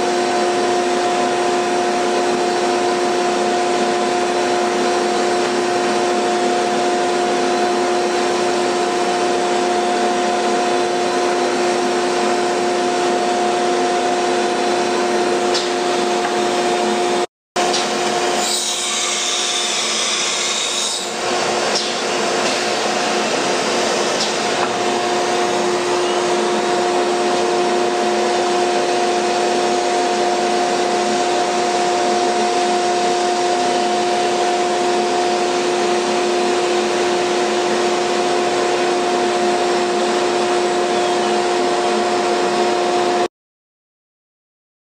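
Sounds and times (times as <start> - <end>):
router spindle whine: 0.1 - 43.2.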